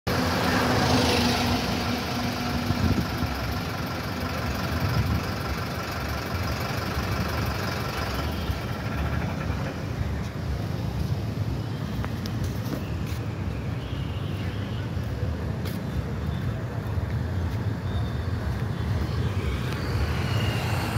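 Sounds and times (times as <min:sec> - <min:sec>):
vehicle engines idling: 0:00.1 - 0:20.9.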